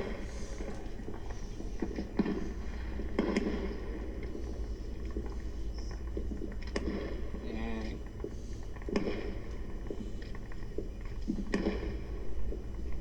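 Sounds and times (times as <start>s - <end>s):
distant fireworks cracking: 0.0s - 13.0s.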